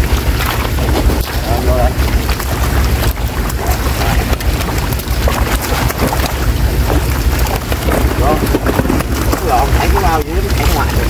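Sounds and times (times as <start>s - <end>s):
fish thrashing and splashing: 0.0s - 11.0s
wind rumbling on microphone: 0.0s - 11.0s.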